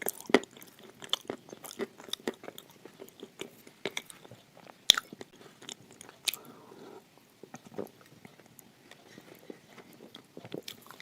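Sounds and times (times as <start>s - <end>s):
clay being chewed crunching: 0.0s - 6.5s, 7.4s - 11.0s.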